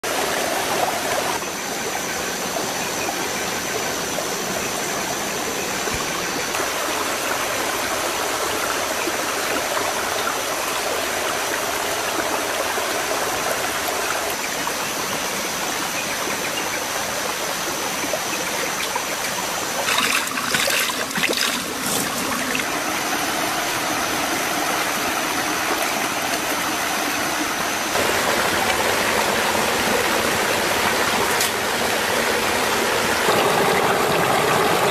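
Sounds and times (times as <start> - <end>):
stream running over rocks: 0.0 - 34.9.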